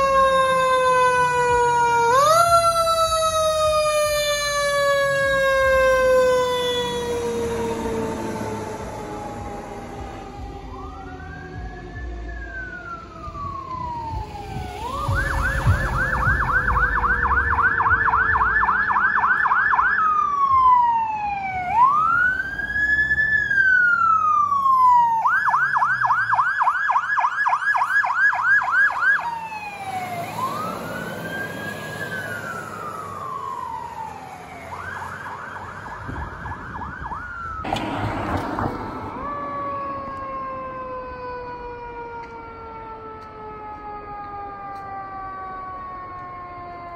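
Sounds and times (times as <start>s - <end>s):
fire truck siren: 0.0s - 46.9s
lower siren tone: 0.0s - 46.9s.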